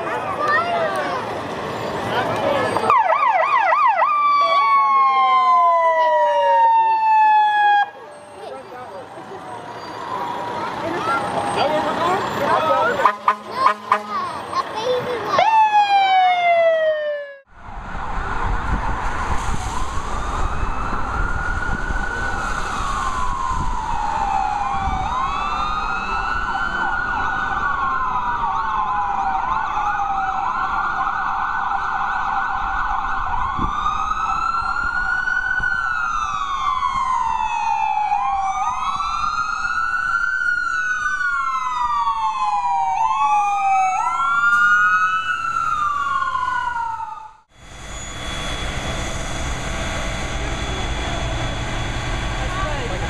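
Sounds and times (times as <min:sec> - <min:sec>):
fire truck sirens wailing: 0:00.0 - 0:53.0
truck engine rumble: 0:00.0 - 0:53.0.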